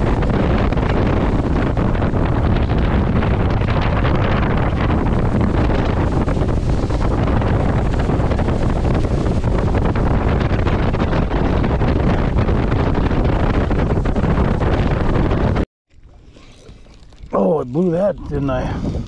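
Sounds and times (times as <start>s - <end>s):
water rushing off boat hull: 0.0s - 19.0s
wind buffeting microphone: 0.0s - 19.0s.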